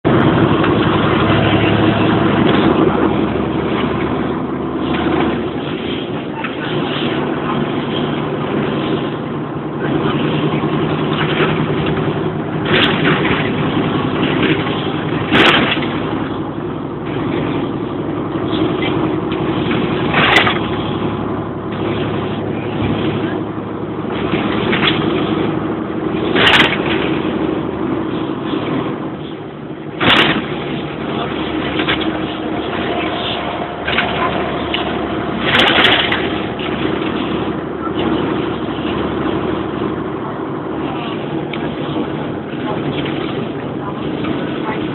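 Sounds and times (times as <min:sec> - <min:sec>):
coach diesel engine drone: 0:00.0 - 0:44.9
road noise: 0:00.0 - 0:44.9.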